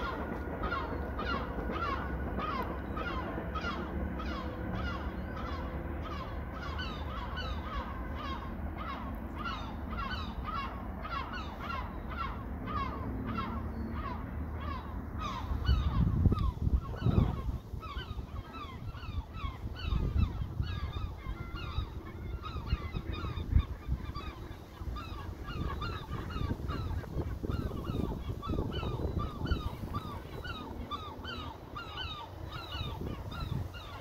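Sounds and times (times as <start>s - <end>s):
waterbirds calling: 0.0s - 34.0s
wind rumbling on microphone: 0.0s - 34.0s.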